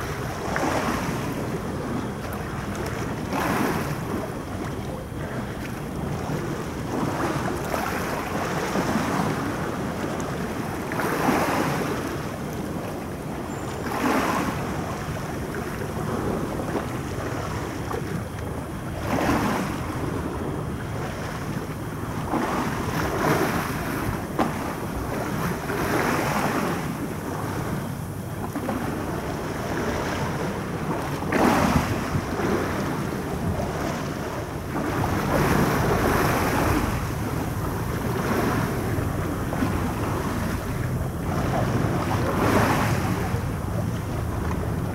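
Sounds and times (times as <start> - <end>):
water washing against shore: 0.0 - 44.9
wind noise on microphone: 0.0 - 44.9.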